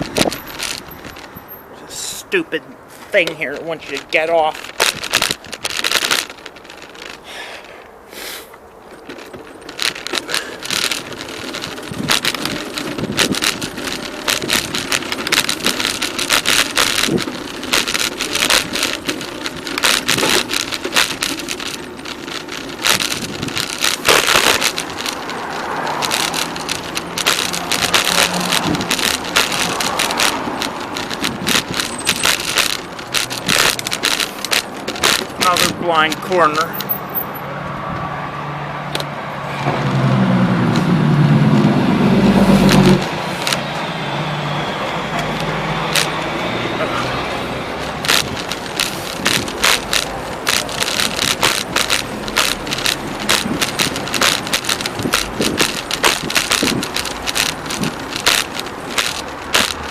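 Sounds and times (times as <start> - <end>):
bicycle rattling and clicking: 0.0 - 1.8, 3.3 - 7.9, 8.6 - 37.4, 42.1 - 43.8, 45.1 - 59.9
steady road noise: 0.0 - 59.9.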